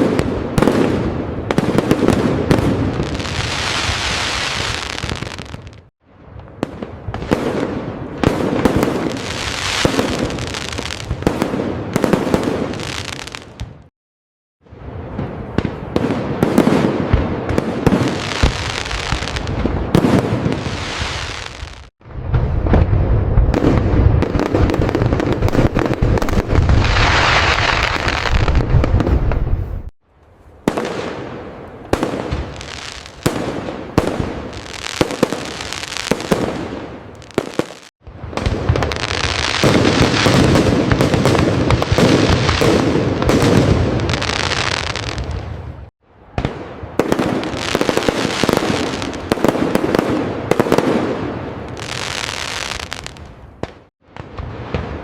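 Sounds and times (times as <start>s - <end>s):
fireworks booming and crackling: 0.0s - 13.9s, 14.6s - 29.9s, 30.6s - 55.0s
fireworks sharp bangs: 0.0s - 13.9s, 14.8s - 29.9s, 30.6s - 55.0s.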